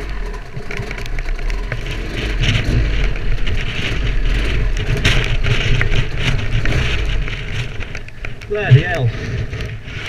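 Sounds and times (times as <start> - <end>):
two-stroke motorcycle engine running: 0.0 - 9.0
wind noise on microphone: 0.0 - 10.0.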